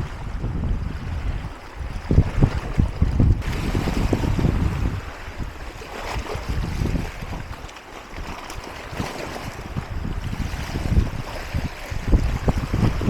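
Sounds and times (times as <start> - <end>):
sea waves against rock: 0.0 - 13.0
wind buffeting microphone: 0.0 - 13.0.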